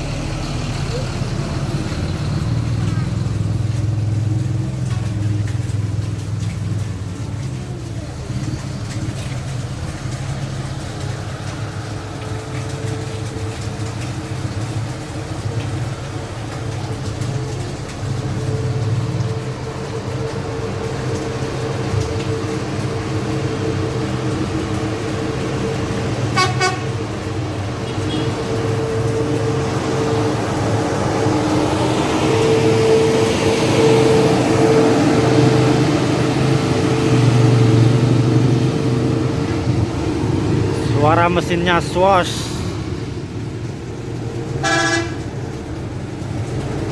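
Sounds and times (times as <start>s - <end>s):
bus engine rumbling: 0.0s - 46.9s.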